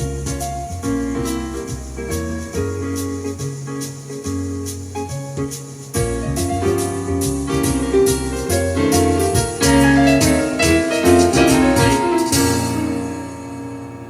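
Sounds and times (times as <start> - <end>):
bass line: 0.0 - 3.5, 6.0 - 14.0
piano instrumental music: 0.0 - 14.0.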